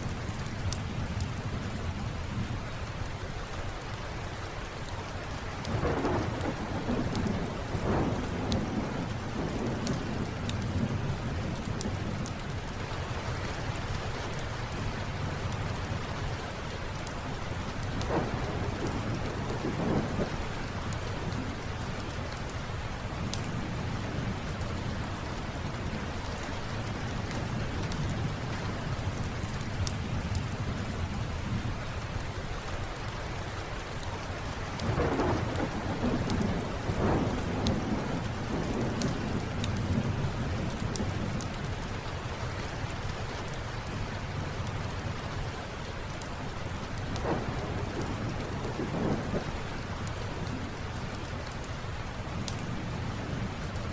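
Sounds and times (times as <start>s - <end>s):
steady rain: 0.0s - 53.9s
wood fire crackling: 0.0s - 53.9s
thunder rumbling: 5.6s - 31.9s, 34.7s - 45.4s, 46.9s - 53.9s.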